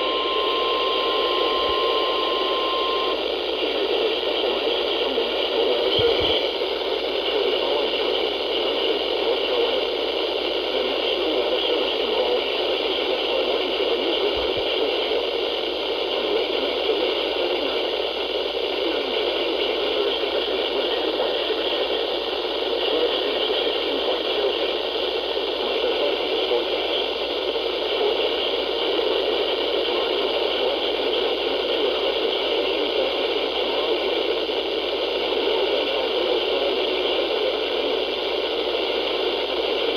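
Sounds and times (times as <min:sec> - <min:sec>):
radio static hissing: 0:00.0 - 0:39.9.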